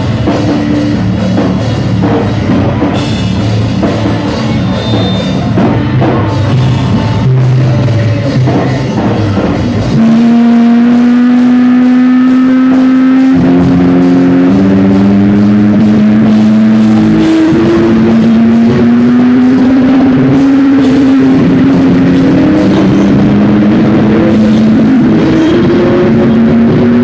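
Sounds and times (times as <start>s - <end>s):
distorted rock guitar: 0.0s - 27.0s.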